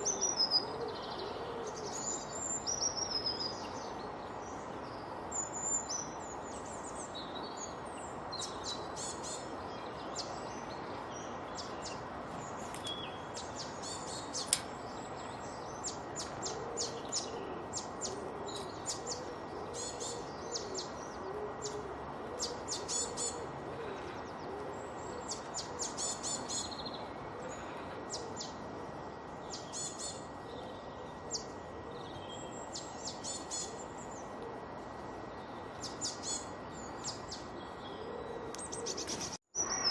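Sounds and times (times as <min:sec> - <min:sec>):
birds singing and chirping: 0:00.0 - 0:39.9
steady background hiss: 0:00.0 - 0:39.9.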